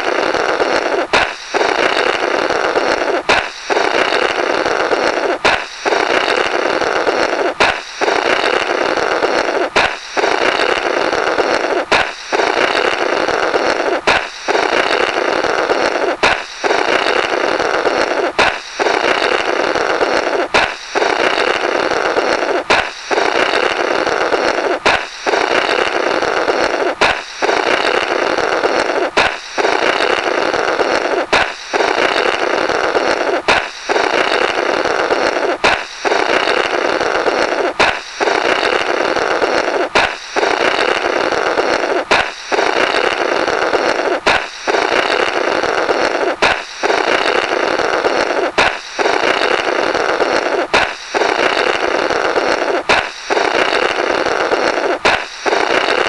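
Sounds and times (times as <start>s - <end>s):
air sputtering through rubber: 0.0s - 56.0s
balloon popping: 0.0s - 56.0s.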